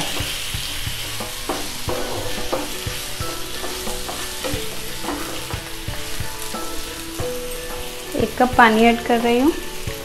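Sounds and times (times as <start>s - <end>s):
chicken and onions sizzling in oil: 0.0s - 10.0s.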